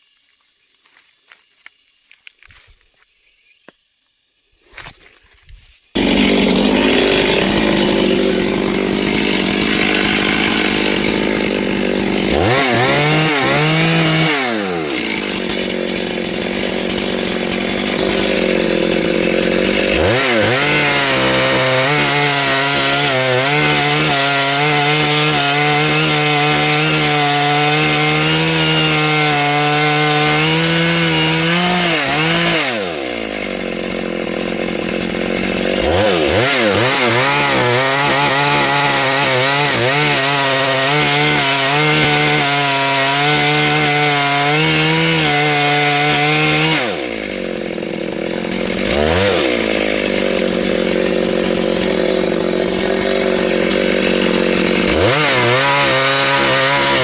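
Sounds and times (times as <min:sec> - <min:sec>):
chainsaw revving: 0:06.0 - 0:57.0.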